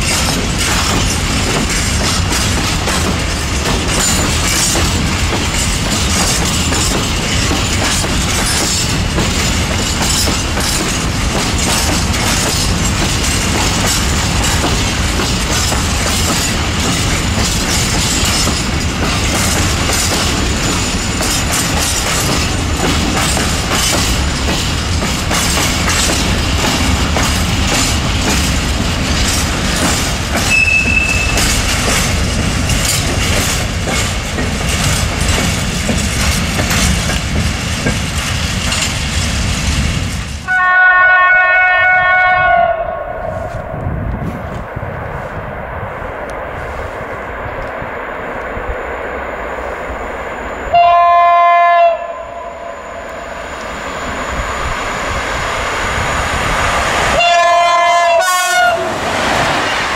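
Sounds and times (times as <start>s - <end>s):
freight train wheels clattering: 0.0s - 40.9s, 50.6s - 59.9s.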